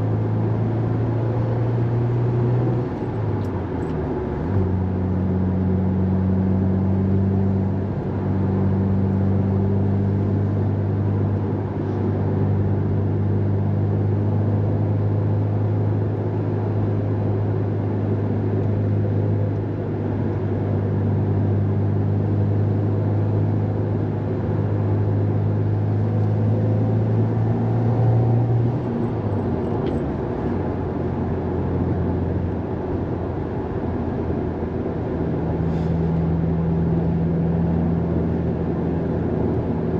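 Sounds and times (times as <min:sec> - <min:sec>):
car engine from inside cabin: 0:00.0 - 0:39.9
road noise: 0:00.0 - 0:39.9.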